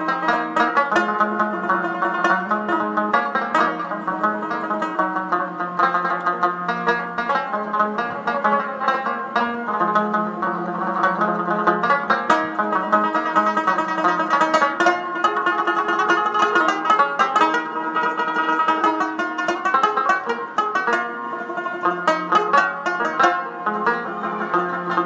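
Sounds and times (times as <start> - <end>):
plucked string music: 0.0 - 25.0.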